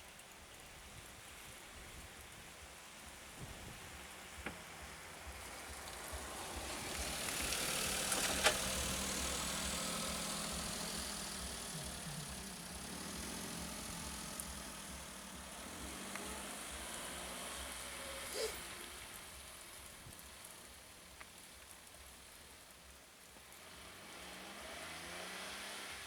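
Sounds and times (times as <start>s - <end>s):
vehicle engine running: 3.0s - 26.0s.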